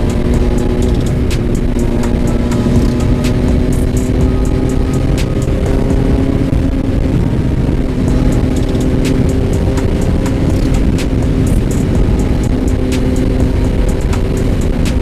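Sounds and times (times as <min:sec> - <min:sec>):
motorcycle engine cruising: 0:00.0 - 0:15.0
wind rumble on microphone: 0:00.0 - 0:15.0.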